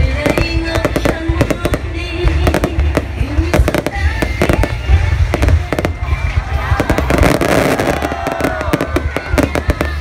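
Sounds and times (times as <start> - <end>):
fireworks bangs: 0.0 - 10.0
music playing: 0.0 - 10.0.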